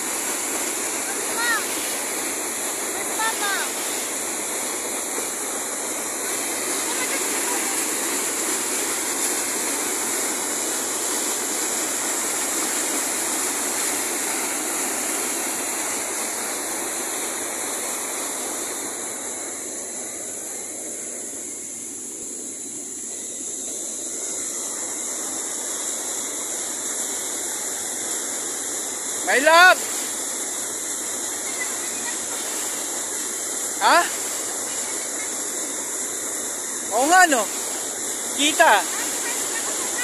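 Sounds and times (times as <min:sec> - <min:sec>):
waterfall rushing over rocks: 0:00.0 - 0:40.0.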